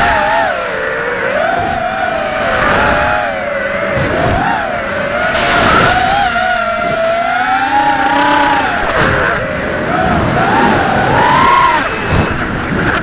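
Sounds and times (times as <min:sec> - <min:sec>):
drone motors whining: 0:00.0 - 0:13.0
wind noise on microphone: 0:00.0 - 0:13.0.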